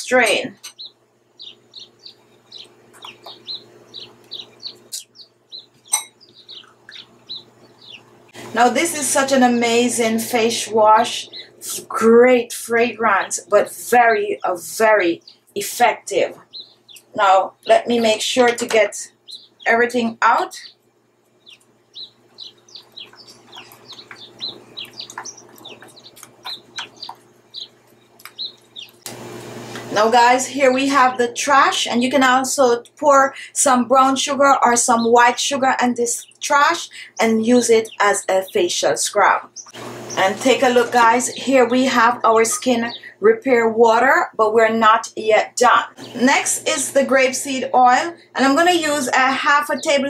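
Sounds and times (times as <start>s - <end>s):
bird chirping: 0.0s - 29.2s, 30.0s - 43.2s, 45.8s - 50.0s
faint steady hum: 0.0s - 50.0s.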